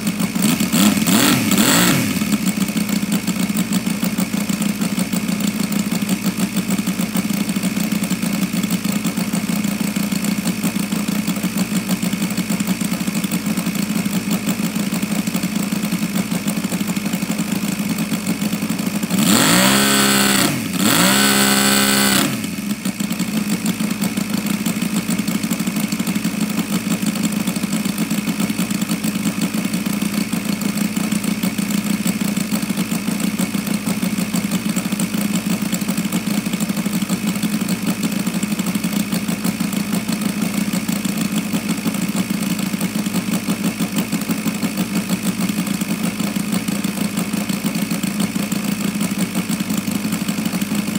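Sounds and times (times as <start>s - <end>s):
model engine idling: 0.0s - 50.9s.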